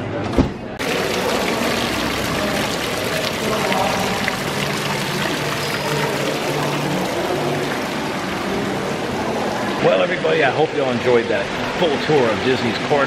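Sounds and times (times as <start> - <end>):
running water splashing: 0.8 - 13.0.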